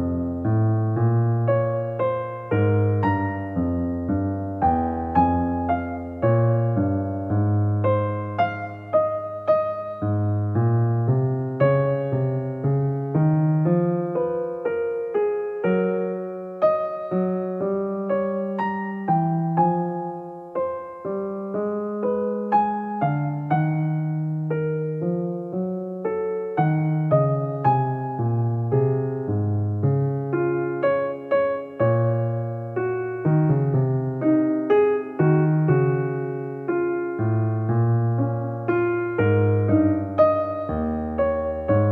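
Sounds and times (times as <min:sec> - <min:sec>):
calm solo piano music: 0:00.0 - 0:41.9.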